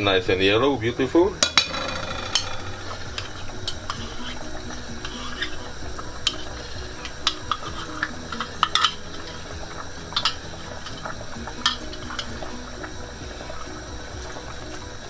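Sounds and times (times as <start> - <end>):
faint background music: 0.0 - 15.0
spoon knocking and scraping pot: 1.4 - 14.9
spoon stirring thick stew: 2.8 - 15.0.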